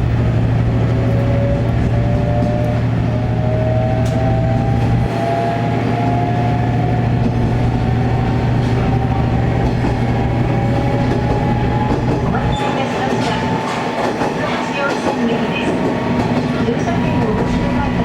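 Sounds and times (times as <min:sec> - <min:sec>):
railcar engine droning: 0:00.0 - 0:18.0.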